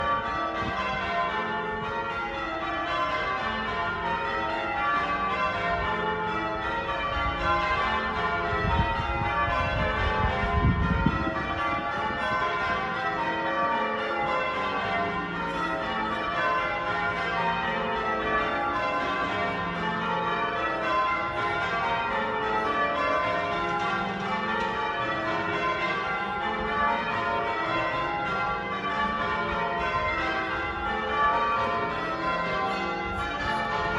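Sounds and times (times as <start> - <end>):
church bells ringing changes: 0.0 - 33.9.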